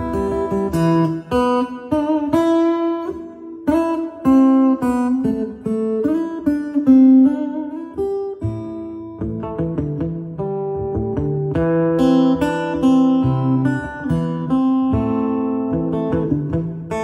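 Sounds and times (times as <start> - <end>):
plucked acoustic guitar notes: 0.0 - 17.0.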